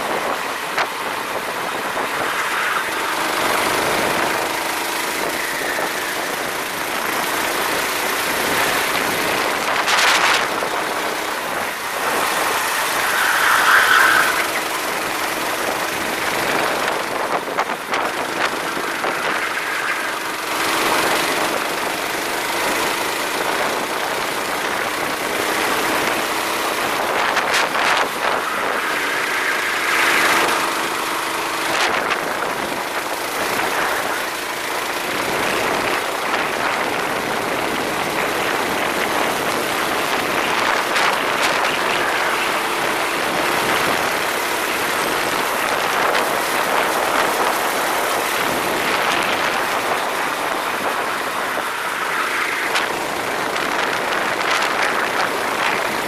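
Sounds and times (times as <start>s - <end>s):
racing kart motor: 0.0s - 56.0s
wind on microphone: 0.0s - 56.0s.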